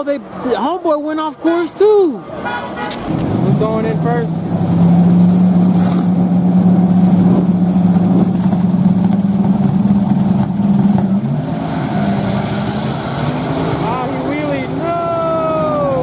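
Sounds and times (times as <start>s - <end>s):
drag race car engines: 0.0s - 16.0s.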